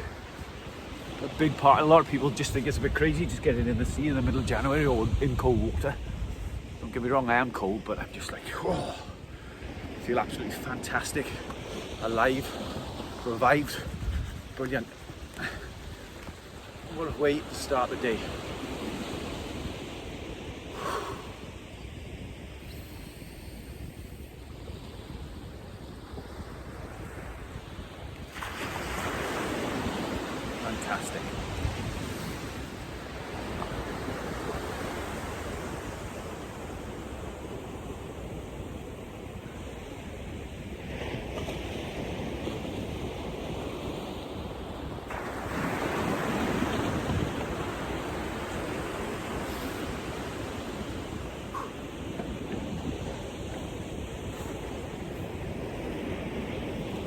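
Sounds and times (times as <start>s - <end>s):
sea surf washing on shore: 0.0s - 57.0s
wind rumbling on microphone: 0.0s - 57.0s.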